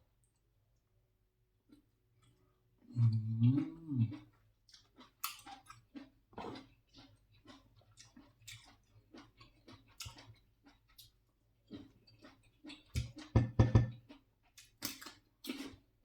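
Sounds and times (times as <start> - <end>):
person chewing wetly: 1.7 - 15.9.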